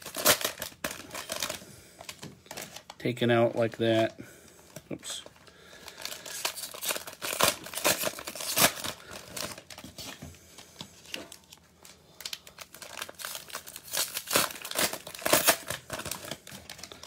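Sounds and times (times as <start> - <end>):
cellophane wrapper tearing: 0.0 - 3.2, 5.1 - 9.9, 11.1 - 17.0
cellophane wrappers crinkling: 0.0 - 10.2, 11.0 - 17.0.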